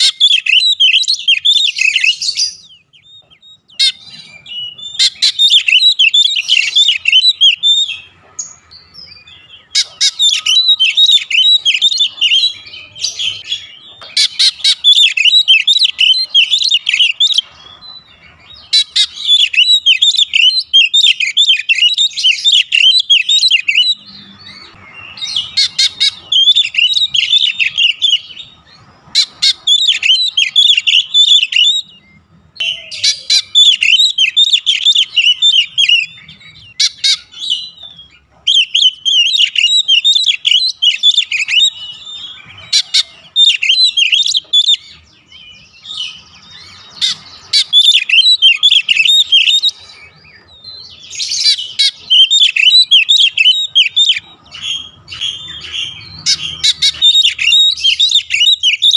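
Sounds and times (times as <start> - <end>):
songbird chattering and whistling: 0.0 - 58.9.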